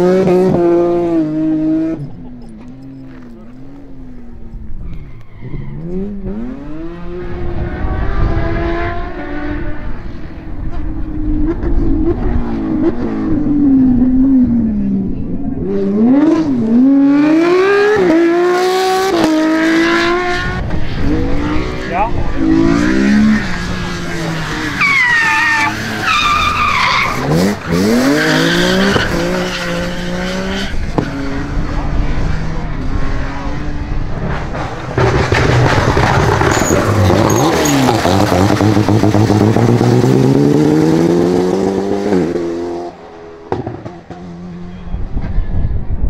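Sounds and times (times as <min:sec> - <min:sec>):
car engine at full throttle: 0:00.0 - 0:46.0.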